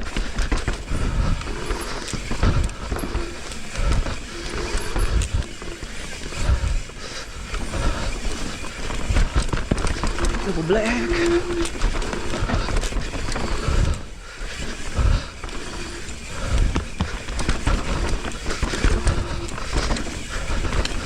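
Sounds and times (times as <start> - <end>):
bike thumping over bumps: 0.0 - 21.0
tyres rolling over dirt: 0.0 - 21.0.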